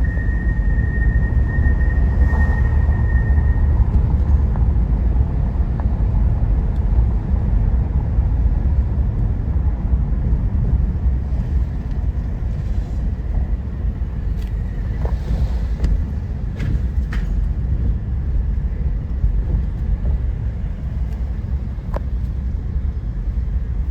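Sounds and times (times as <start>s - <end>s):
car road and engine rumble: 0.0s - 23.9s.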